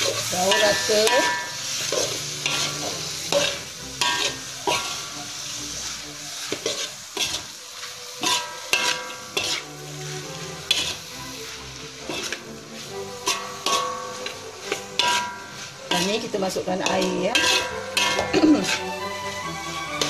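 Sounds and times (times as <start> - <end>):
metal spatula scraping wok: 0.0 - 20.0
oil sizzling: 0.0 - 20.0.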